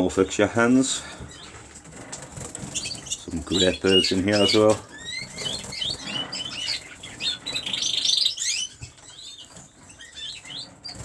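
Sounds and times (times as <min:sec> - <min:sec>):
canaries chirping: 0:00.0 - 0:11.0
wings fluttering: 0:01.0 - 0:11.0
bird trill: 0:01.3 - 0:01.6, 0:02.3 - 0:11.0.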